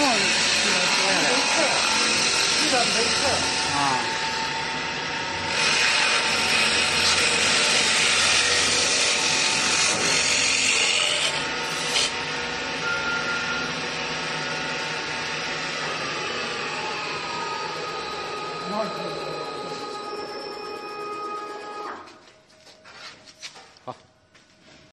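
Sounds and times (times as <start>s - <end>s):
machine running steadily: 0.0s - 22.0s
wood lathe cutting: 0.0s - 22.0s.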